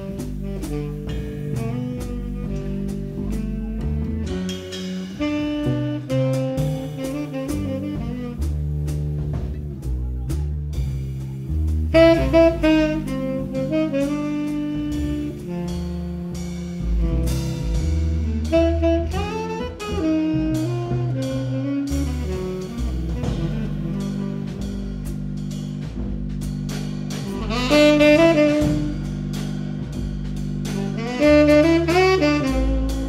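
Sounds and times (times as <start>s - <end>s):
saxophone melody: 0.0s - 9.2s, 11.9s - 25.1s, 27.2s - 29.4s, 30.6s - 33.0s
bass line: 0.0s - 33.0s
drums: 0.0s - 33.0s.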